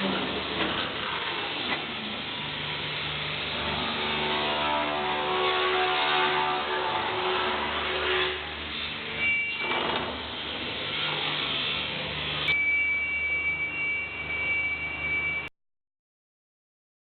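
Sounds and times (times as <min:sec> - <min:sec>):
saw blades whining: 0:00.1 - 0:15.4.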